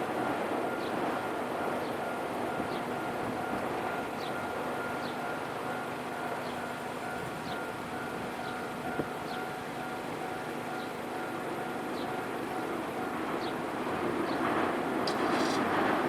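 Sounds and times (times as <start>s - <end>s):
train running noise: 0.0s - 16.0s.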